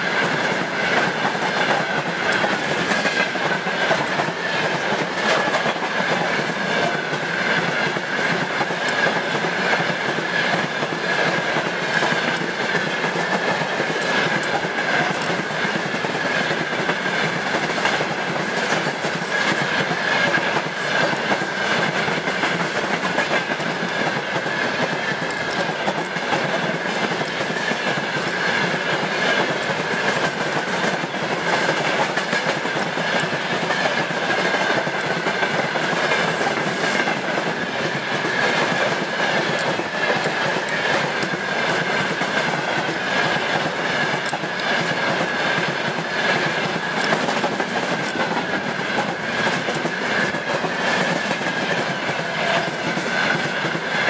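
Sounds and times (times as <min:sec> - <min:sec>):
freight train rumble: 0:00.0 - 0:54.0
train wheels clattering over rail joints: 0:00.0 - 0:54.0.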